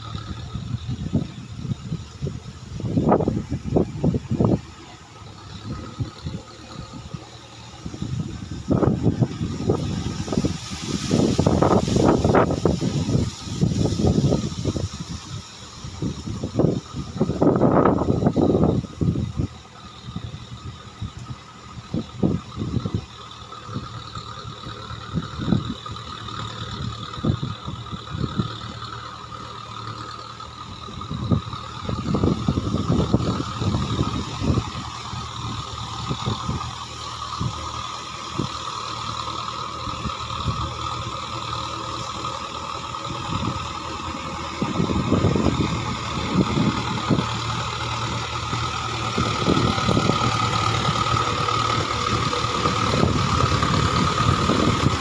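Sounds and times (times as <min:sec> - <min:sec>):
steady high whine: 0:00.0 - 0:55.0
tractor diesel engine under load: 0:00.0 - 0:55.0.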